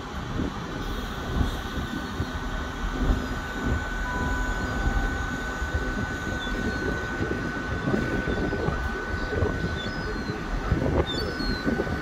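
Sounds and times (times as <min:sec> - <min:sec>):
low uneven rumble: 0:00.0 - 0:12.0
train high-pitched whine: 0:00.0 - 0:12.0
lower tone: 0:02.0 - 0:11.9.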